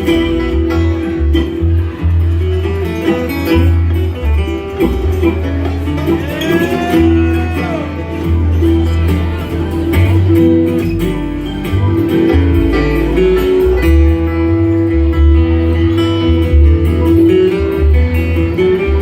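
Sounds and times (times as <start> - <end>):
acoustic guitar picking: 0.0 - 19.0
bluegrass band playing: 0.0 - 19.0
deep bass notes: 0.0 - 19.0.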